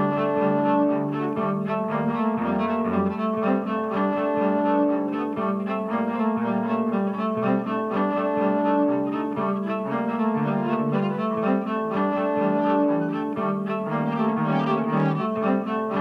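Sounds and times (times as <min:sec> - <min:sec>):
bowed cello playing: 0:00.0 - 0:16.0.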